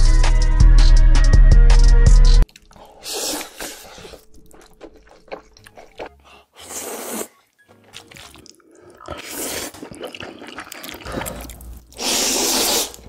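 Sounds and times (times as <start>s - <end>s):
slurping and chewing noodles: 2.4s - 13.0s.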